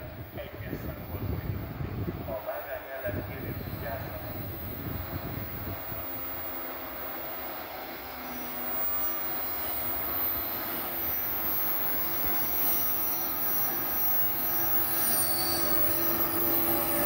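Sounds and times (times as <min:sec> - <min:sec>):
train approaching: 0:00.0 - 0:17.0
high-pitched metallic squeal: 0:03.0 - 0:17.0.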